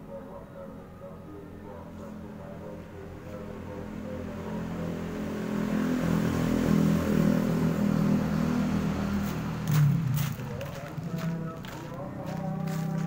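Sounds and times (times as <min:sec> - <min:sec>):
vehicle engine running: 0:01.4 - 0:13.0.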